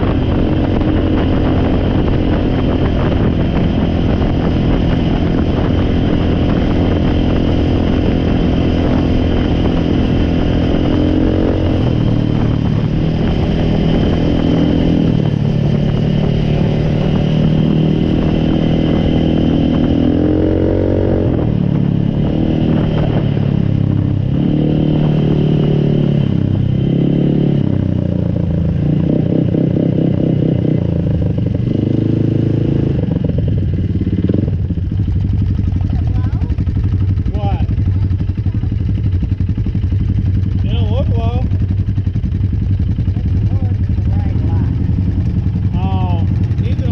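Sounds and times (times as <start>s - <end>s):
atv engine revving: 0.0s - 46.9s.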